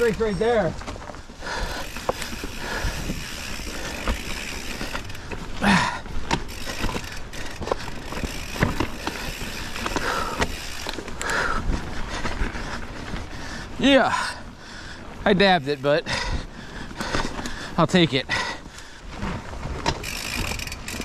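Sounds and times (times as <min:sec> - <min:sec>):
bike tyres rolling over rock: 0:00.0 - 0:14.4, 0:15.0 - 0:21.0
bike rattling: 0:00.0 - 0:21.0.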